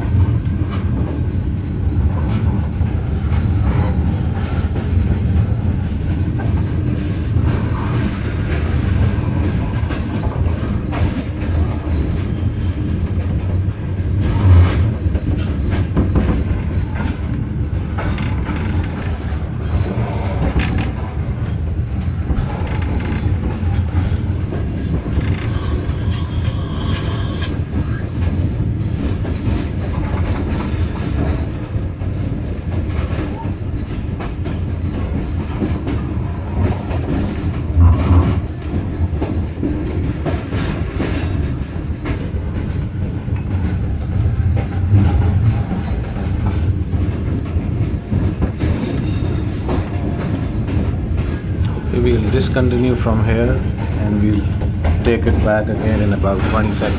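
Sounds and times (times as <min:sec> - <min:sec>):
train rumble: 0:00.0 - 0:56.9
wheels clattering over track: 0:00.1 - 0:56.9.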